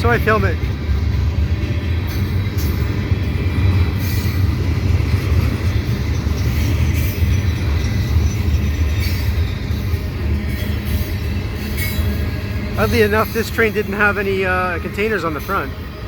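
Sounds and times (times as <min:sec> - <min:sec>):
freight train low rumble: 0:00.0 - 0:16.0.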